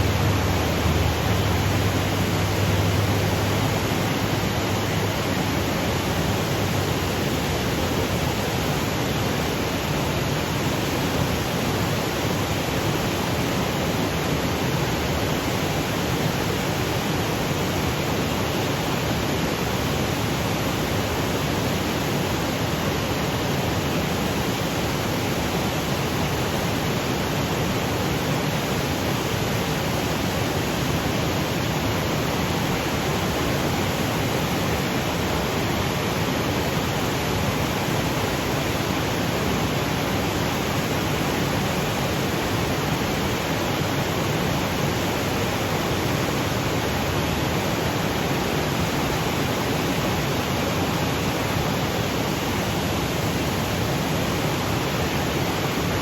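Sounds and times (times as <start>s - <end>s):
waterfall cascading over boulders: 0.0s - 56.0s.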